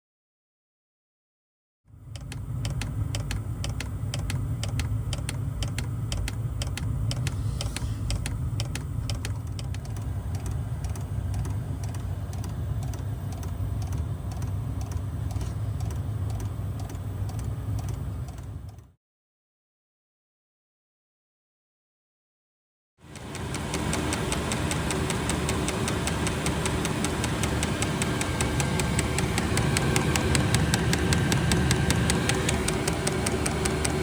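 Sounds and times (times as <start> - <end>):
low hum of heater: 1.9 - 18.8, 23.1 - 34.0
fuel pump ticking: 2.0 - 18.9, 23.1 - 34.0.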